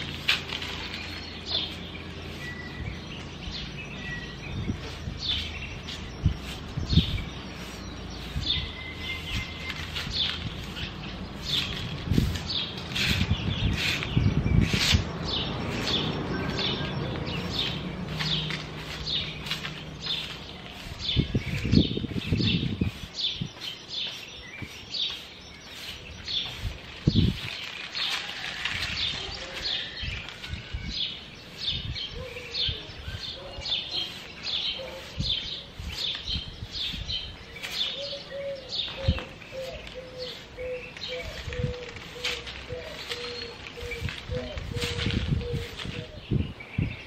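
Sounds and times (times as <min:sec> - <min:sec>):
small bird chirping: 0:00.0 - 0:47.0.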